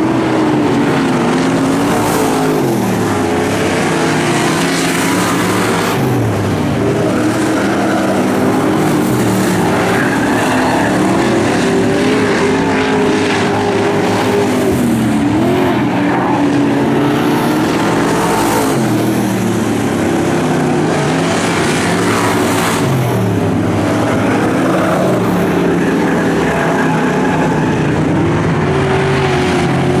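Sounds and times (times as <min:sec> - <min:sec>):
race car engines: 0:00.0 - 0:30.0.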